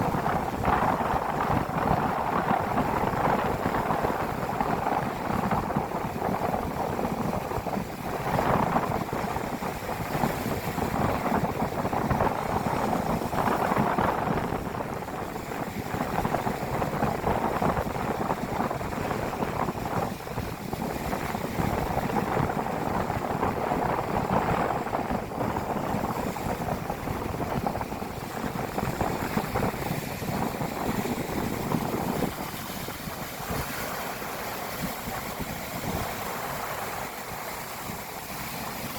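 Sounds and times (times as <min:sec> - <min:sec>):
sea surf breaking on beach: 0:00.0 - 0:38.9
wind buffeting microphone: 0:00.0 - 0:38.9.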